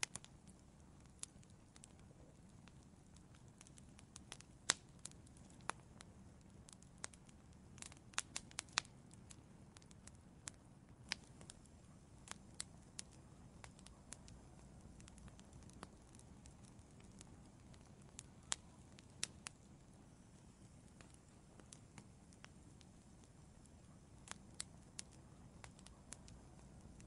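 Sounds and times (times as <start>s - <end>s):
fire snaps: 0.0s - 27.0s
wood fire crackling: 0.0s - 27.0s.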